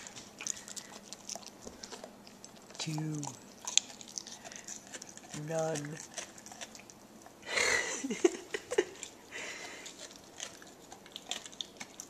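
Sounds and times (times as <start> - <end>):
dog gnawing on a chew: 0.0 - 12.0.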